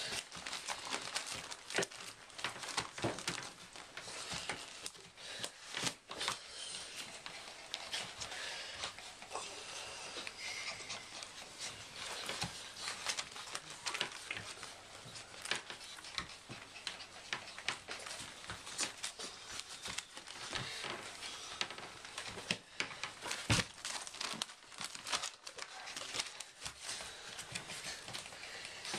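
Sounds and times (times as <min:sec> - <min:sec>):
puppy claws clicking and scratching: 0:00.0 - 0:28.9.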